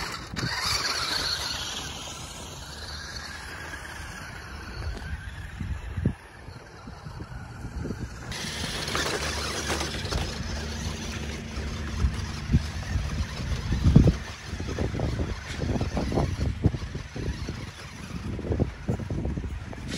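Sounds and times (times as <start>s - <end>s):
electric motor whirring: 0.0s - 19.9s
wheels thumping on stones: 0.0s - 19.9s.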